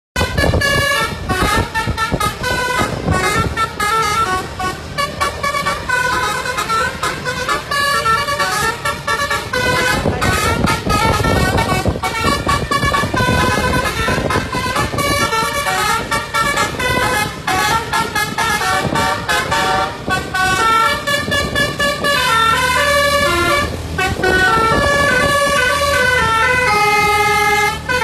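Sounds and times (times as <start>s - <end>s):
bus musical horn playing tune: 0.2s - 28.0s.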